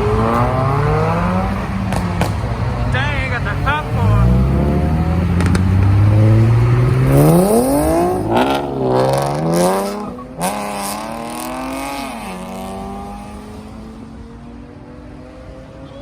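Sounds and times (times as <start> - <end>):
car engine revving: 0.0 - 15.8.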